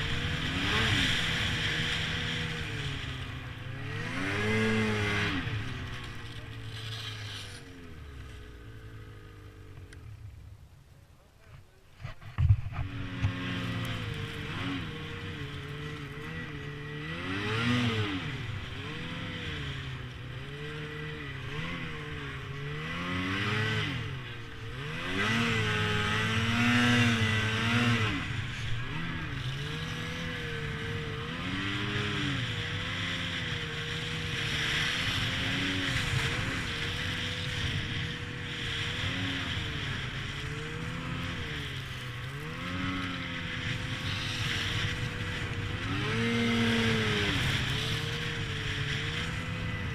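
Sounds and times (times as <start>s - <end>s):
snowmobile engine revving: 0.0s - 10.0s, 12.3s - 49.9s.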